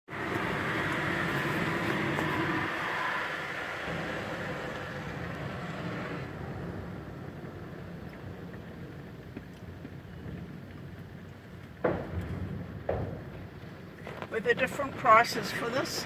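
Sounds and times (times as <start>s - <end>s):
car engine idling: 0.1s - 16.0s.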